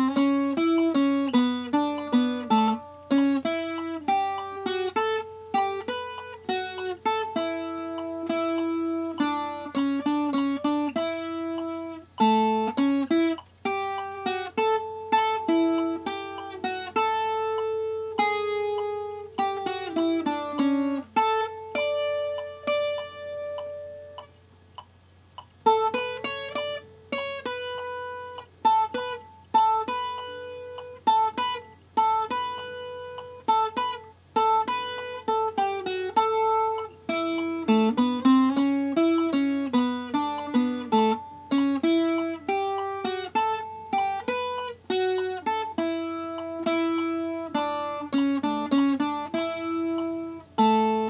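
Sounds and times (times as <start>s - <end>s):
picked string instrument melody: 0.0s - 24.4s, 25.4s - 51.0s.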